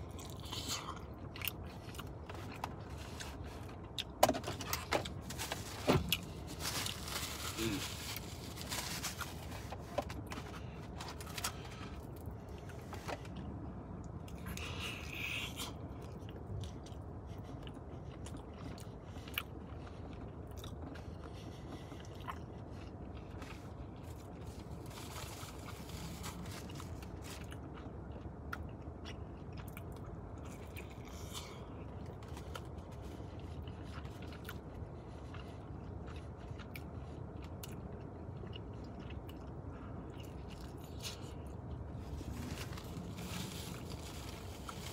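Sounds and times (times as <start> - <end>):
person chewing pizza: 0.0 - 44.9.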